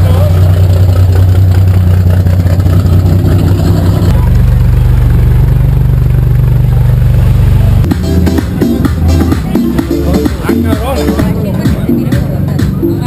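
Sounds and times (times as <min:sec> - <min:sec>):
race engine idling: 0:00.0 - 0:13.0.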